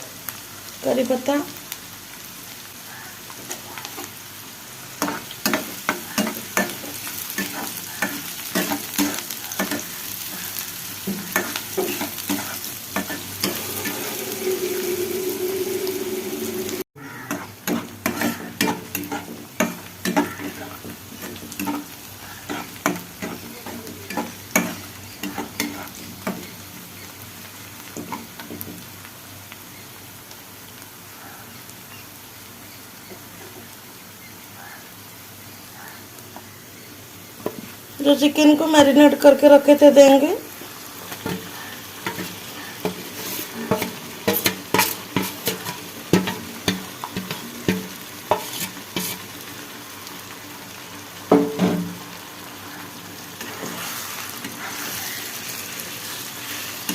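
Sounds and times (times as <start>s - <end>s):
onions sizzling in hot oil: 0.0s - 56.9s.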